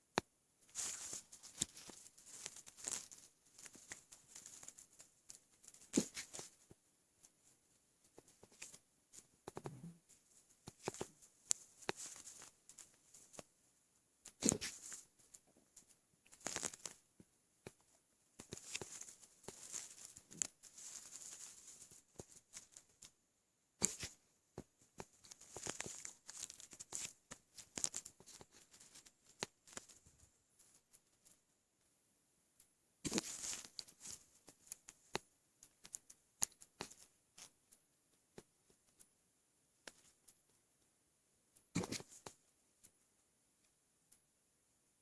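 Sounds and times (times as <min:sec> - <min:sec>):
crackly rustling: 0:00.0 - 0:23.2, 0:23.8 - 0:44.3.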